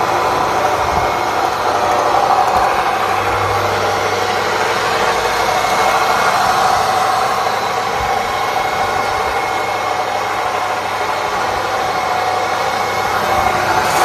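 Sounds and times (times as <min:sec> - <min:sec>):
pulverizer machine humming: 0:00.0 - 0:14.0
rushing noise: 0:00.0 - 0:14.0.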